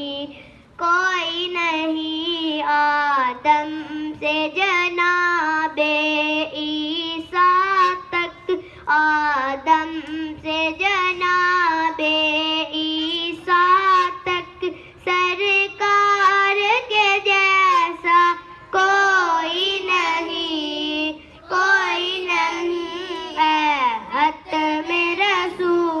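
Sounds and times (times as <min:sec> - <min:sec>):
boy singing unaccompanied: 0:00.0 - 0:26.0.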